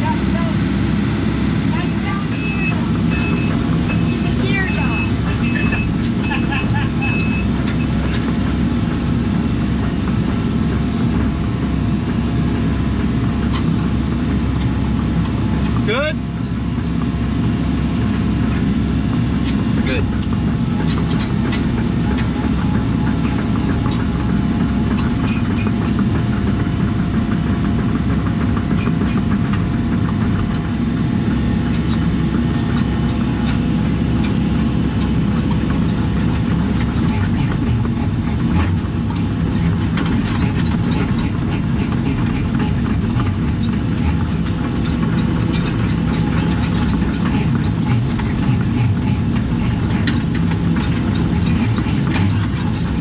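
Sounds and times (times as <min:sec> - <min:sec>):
diesel engine running: 0:00.0 - 0:53.0
machine clanking and knocking: 0:02.0 - 0:53.0.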